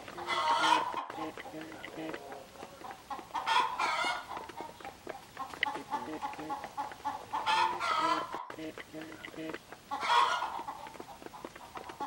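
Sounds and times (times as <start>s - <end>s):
beaks tapping on concrete: 0.0s - 12.0s
drawn-out chicken call: 0.0s - 12.0s
hens and rooster clucking: 0.0s - 12.0s.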